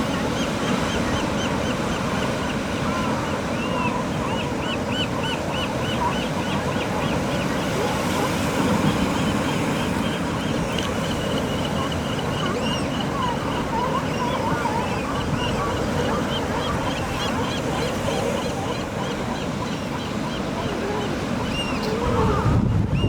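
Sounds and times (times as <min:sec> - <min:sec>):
low wavering animal calls: 0:03.7 - 0:23.0.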